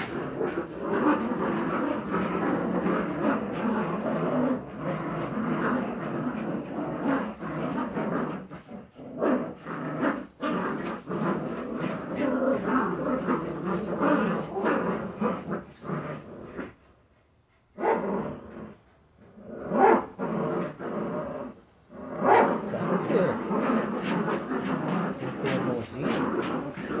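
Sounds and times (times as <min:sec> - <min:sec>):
puppies growling: 0:00.0 - 0:16.9, 0:17.8 - 0:27.0.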